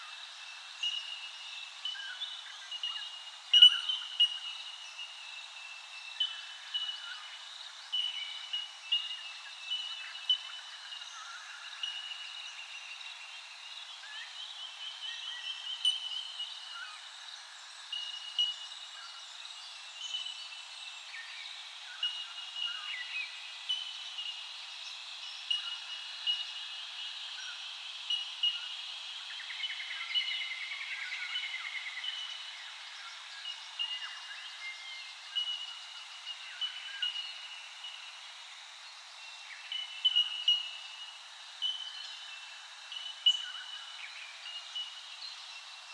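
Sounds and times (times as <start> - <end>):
faint steady hiss: 0.0 - 45.9.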